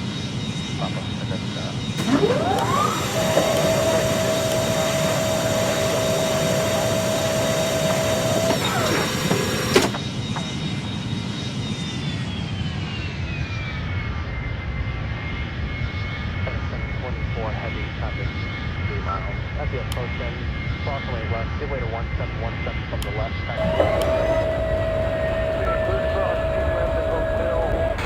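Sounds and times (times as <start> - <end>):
jet engines whining: 0.0 - 28.0.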